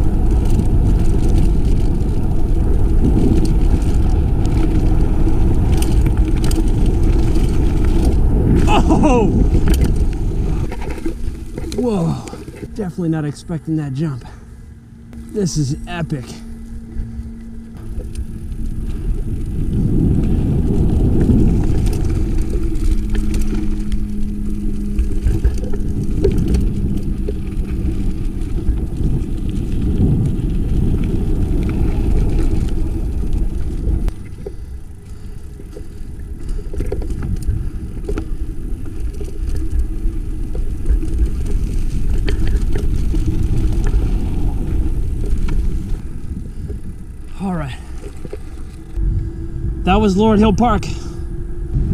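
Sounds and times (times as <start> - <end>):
bike rattling over rocks: 0.0 - 13.0, 16.4 - 49.0
wind rumbling on microphone: 0.0 - 51.9.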